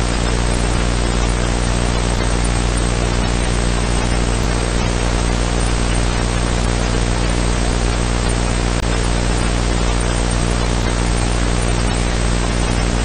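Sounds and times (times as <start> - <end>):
low hum: 0.0 - 13.0
videotape playback hiss: 0.0 - 13.0.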